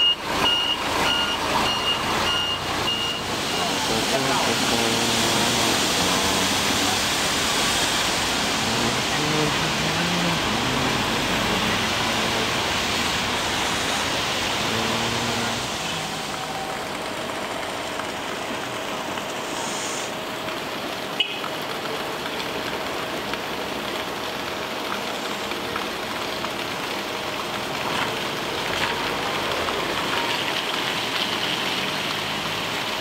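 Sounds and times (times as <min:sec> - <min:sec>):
river rushing: 0:00.2 - 0:33.0.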